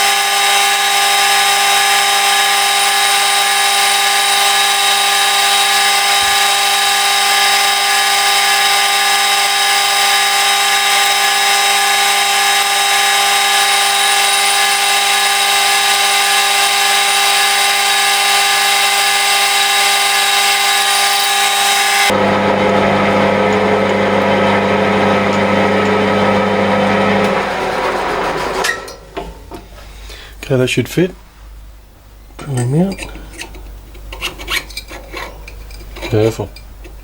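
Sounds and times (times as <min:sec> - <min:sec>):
metal lathe whining: 0:00.0 - 0:29.6.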